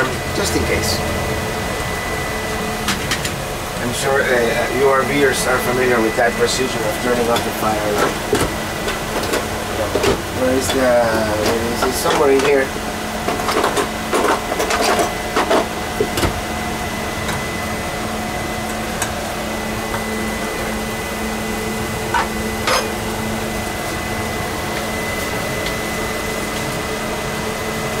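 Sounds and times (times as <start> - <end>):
ventilation fans whirring: 0.0 - 28.0.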